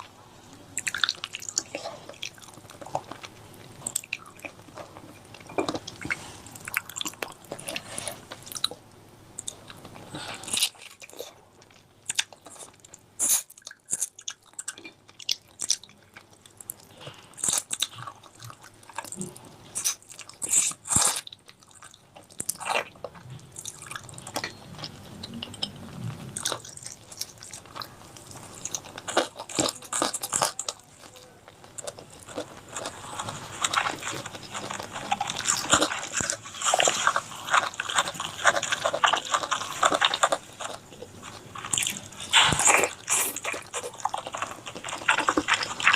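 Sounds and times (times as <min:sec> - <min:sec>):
close-miked chewing and biting: 0:00.8 - 0:45.9.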